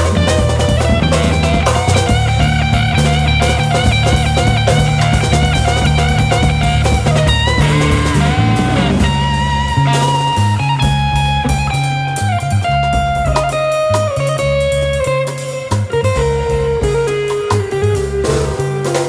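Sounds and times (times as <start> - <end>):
driving electric bass: 0.0 - 19.0
drum kit: 0.0 - 19.0
electric guitar lead line: 0.0 - 19.0.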